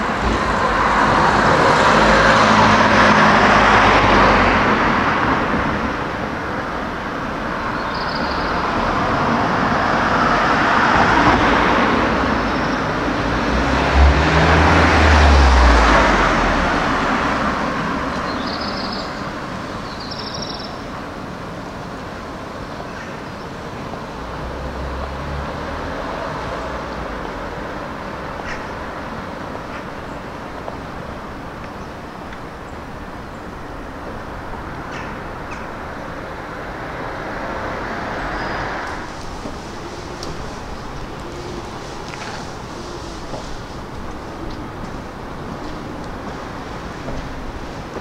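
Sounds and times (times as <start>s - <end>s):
car passing: 0.0s - 22.5s, 23.6s - 48.0s
traffic hum: 0.0s - 48.0s.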